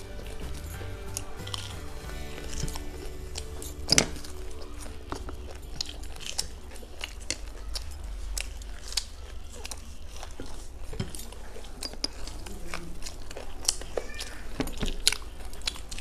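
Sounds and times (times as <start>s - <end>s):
crunchy chewing: 0.0s - 16.0s
faint background music: 0.0s - 16.0s.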